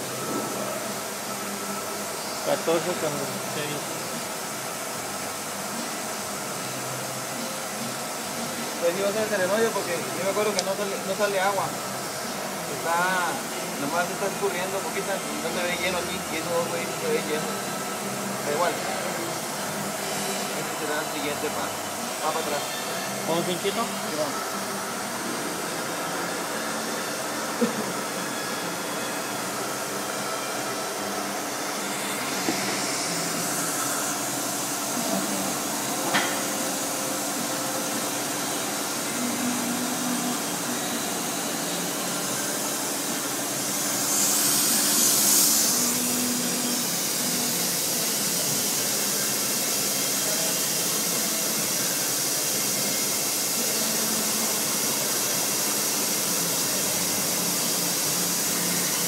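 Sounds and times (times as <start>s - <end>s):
machine hum and hiss: 0.0s - 59.0s.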